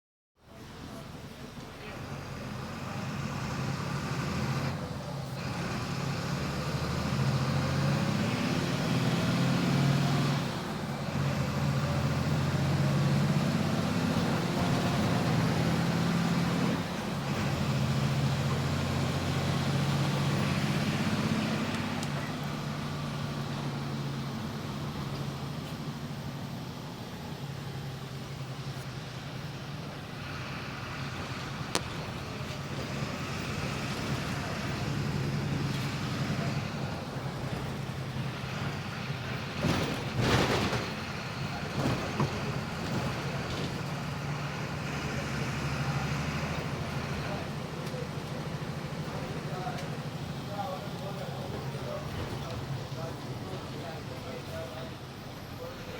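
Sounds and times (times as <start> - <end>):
bus diesel engine revving: 0.6 - 55.9.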